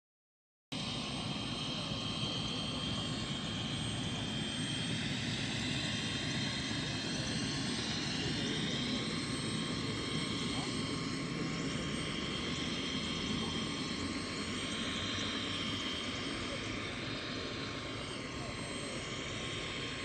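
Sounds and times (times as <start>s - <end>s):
engine drone: 0.8s - 20.0s
faint high whine: 0.8s - 20.0s.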